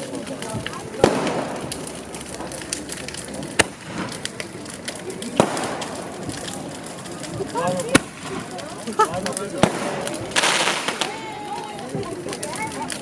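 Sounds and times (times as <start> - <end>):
crowd murmuring: 0.0 - 13.0
firework bangs: 0.0 - 13.0
firework crackling pops: 0.0 - 13.0.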